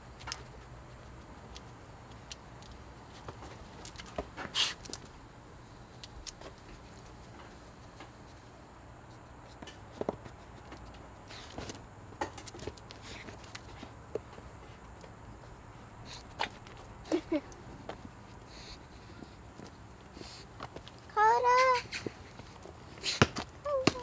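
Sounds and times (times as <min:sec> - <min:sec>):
ball and paws scuffing on concrete: 0:00.2 - 0:05.2, 0:05.9 - 0:24.0.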